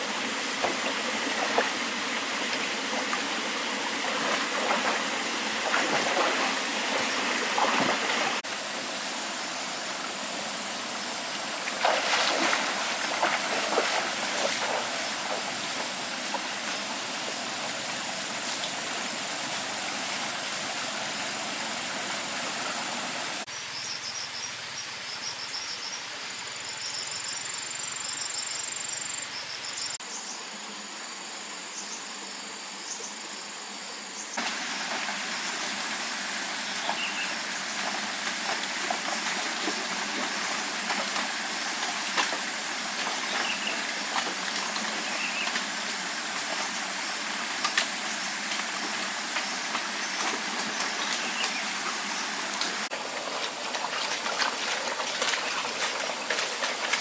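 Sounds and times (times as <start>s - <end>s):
flowing water: 0.0s - 23.5s, 34.4s - 57.0s.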